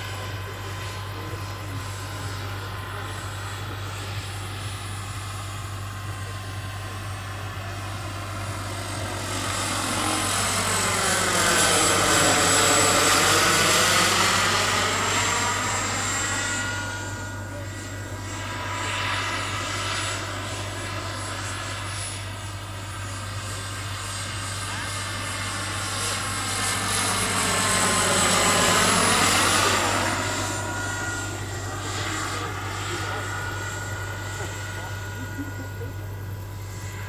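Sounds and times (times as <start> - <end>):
model helicopter turbine whine: 0.0 - 37.0.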